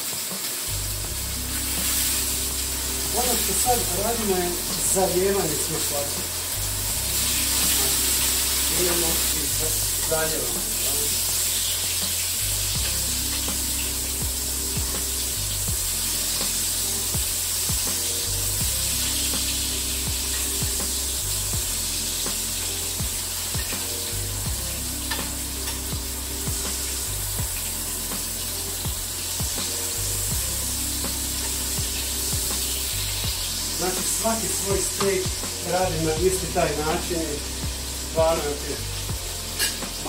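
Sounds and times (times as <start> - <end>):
steak sizzling in a frying pan: 0.0 - 40.0
background music with bass line: 0.7 - 40.0.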